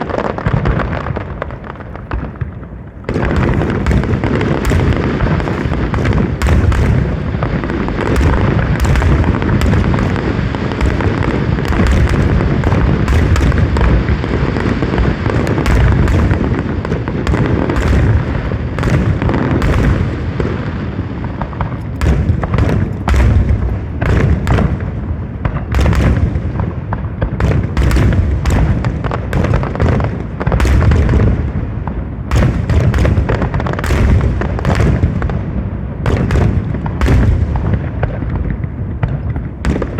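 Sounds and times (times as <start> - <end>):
fireworks booming: 0.0 - 39.9
fireworks crackling: 0.0 - 39.9.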